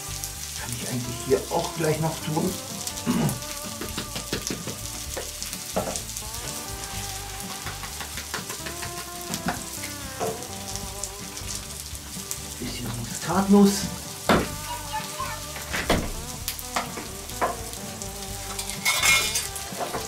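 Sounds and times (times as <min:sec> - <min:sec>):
crackles and pops: 0:00.0 - 0:20.0
food sizzling on charcoal grill: 0:00.0 - 0:20.0.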